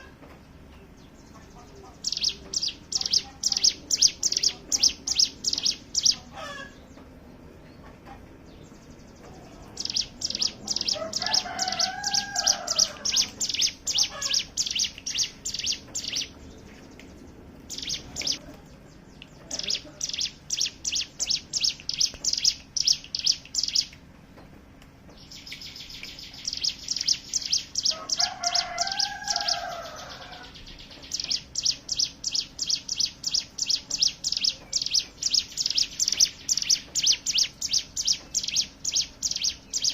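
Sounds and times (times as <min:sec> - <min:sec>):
bird rapid chattering song: 0:00.0 - 0:24.4, 0:25.1 - 0:39.9.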